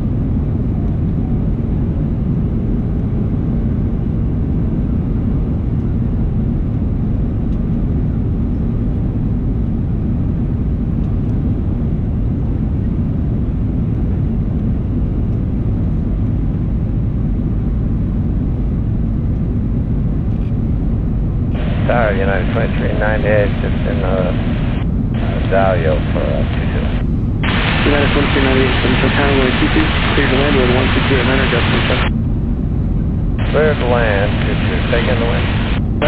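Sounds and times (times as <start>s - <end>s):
airplane cabin rumble: 0.0s - 36.0s.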